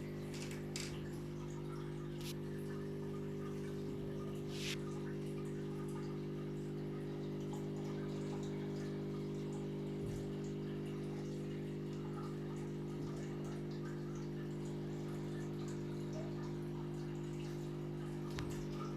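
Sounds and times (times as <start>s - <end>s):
aquarium pump humming: 0.0s - 18.9s
water trickling and dripping: 0.0s - 18.9s.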